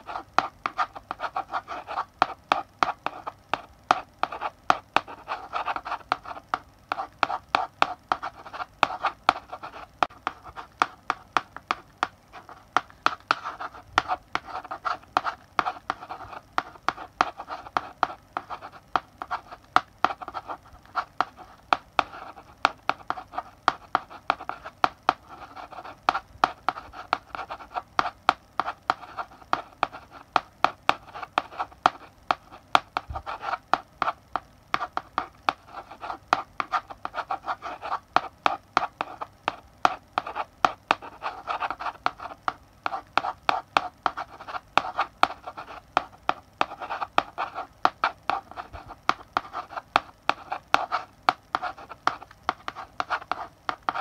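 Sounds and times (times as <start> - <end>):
chalk writing on a blackboard: 0.0 - 54.0.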